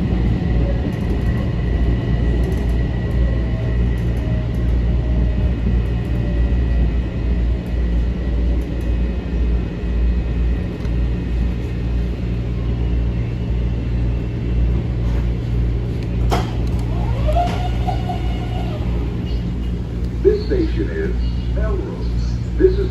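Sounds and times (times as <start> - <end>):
train car rumble: 0.0 - 22.9.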